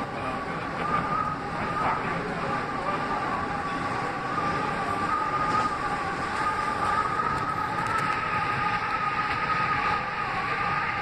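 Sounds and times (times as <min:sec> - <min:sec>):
subway car rumble and rail noise: 0:00.0 - 0:11.0.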